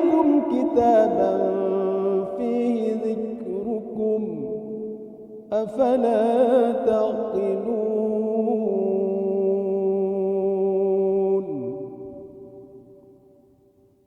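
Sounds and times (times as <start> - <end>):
man reciting melodically: 0.0 - 12.4
echo: 0.0 - 14.0.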